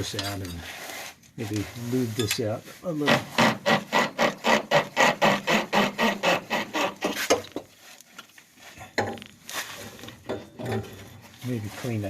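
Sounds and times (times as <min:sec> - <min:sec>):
hand scrubbing metal: 0:00.0 - 0:08.0, 0:09.5 - 0:12.0.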